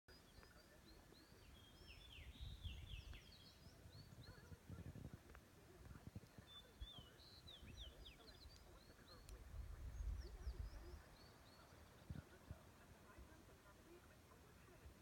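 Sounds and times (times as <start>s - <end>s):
birds calling: 0.1s - 15.0s.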